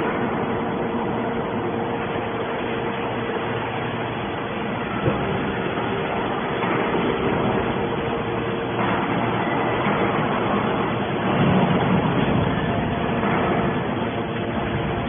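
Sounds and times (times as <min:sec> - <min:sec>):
hydraulic baler running: 0:00.0 - 0:15.0.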